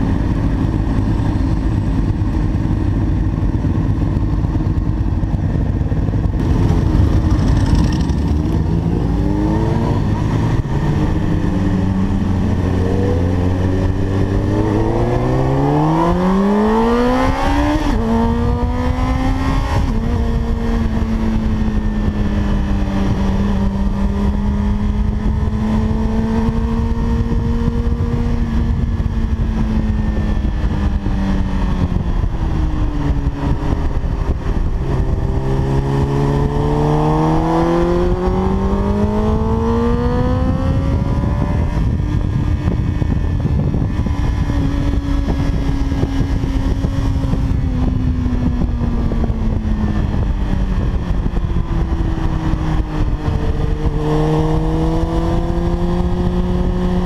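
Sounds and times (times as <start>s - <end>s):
motorbike engine at full throttle: 0.0s - 57.0s
wind rush: 0.0s - 57.0s.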